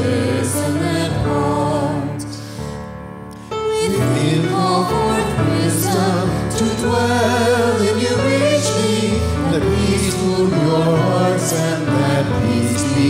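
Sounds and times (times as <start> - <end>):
voices singing worship song: 0.0 - 2.6, 3.6 - 13.0.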